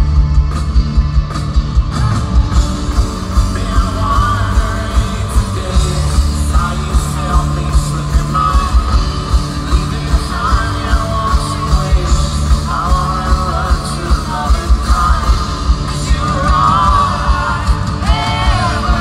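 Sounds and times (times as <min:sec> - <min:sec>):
electric guitar: 0:00.0 - 0:19.0
fast steady drum beat: 0:00.0 - 0:19.0
male lead singer: 0:01.8 - 0:19.0.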